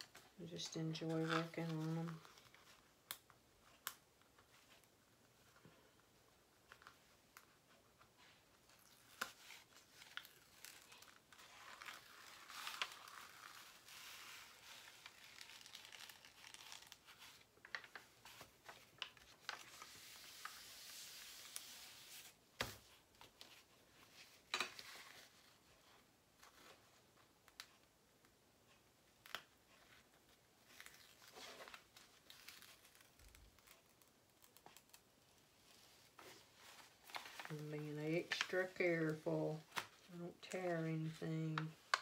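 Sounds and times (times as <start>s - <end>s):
plastic film crinkling and rustling: 0.0s - 5.7s, 6.6s - 25.8s, 28.7s - 42.0s.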